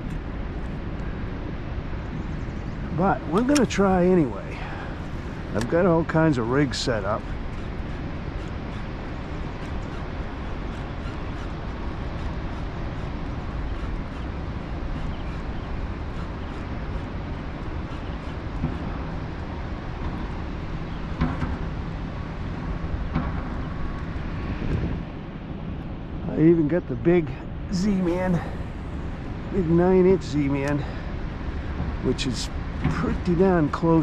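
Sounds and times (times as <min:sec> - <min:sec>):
rushing outdoor noise: 0:00.0 - 0:34.0.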